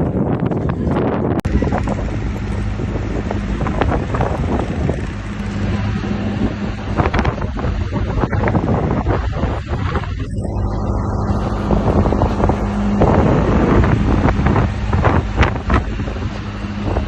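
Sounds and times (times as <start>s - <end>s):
steady hum: 0.0s - 17.0s
wind buffeting microphone: 0.0s - 17.0s.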